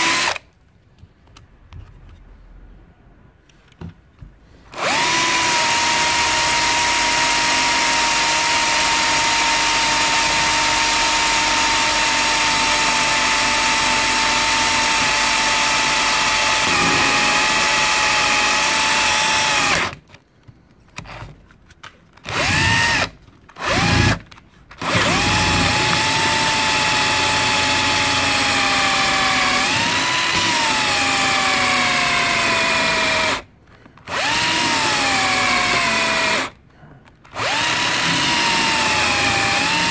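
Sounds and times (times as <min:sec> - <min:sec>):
cordless drill whining: 0:00.0 - 0:00.4, 0:04.7 - 0:20.0, 0:22.2 - 0:33.4, 0:34.0 - 0:36.6, 0:37.3 - 0:39.9.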